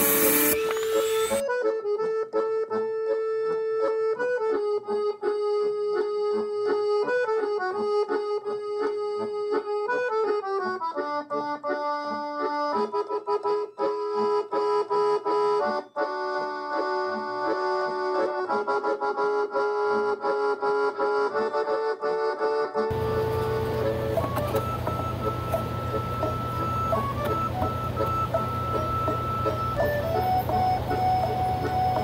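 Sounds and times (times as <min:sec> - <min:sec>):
accordion melody: 0:00.0 - 0:32.0.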